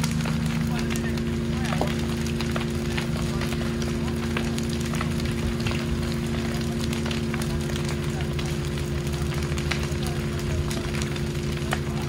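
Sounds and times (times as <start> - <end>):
engine running steadily: 0.0 - 12.0
sharp crackles and pops: 0.0 - 12.0.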